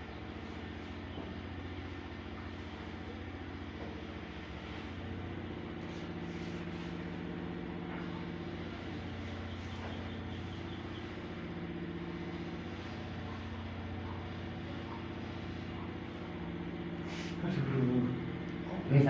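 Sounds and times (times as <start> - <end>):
engine low hum: 0.0 - 19.0
higher engine hum: 0.0 - 19.0.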